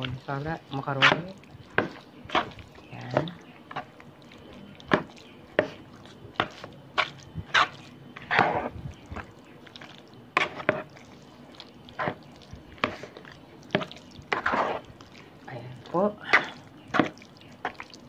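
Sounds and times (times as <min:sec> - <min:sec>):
wet squelches of stirring: 0:00.0 - 0:18.0.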